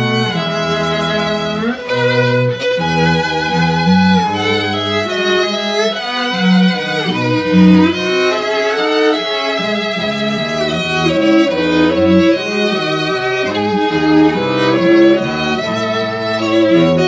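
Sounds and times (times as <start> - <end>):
string trio playing: 0.0 - 17.0.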